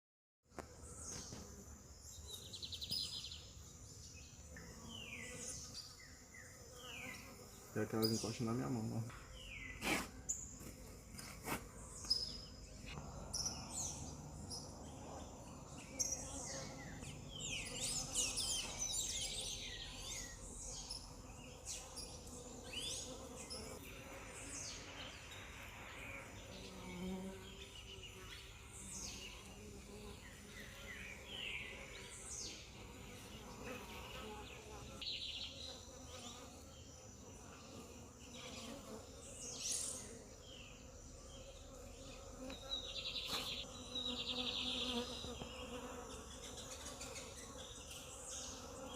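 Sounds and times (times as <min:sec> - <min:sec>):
honeybees buzzing: 0:00.6 - 0:48.9.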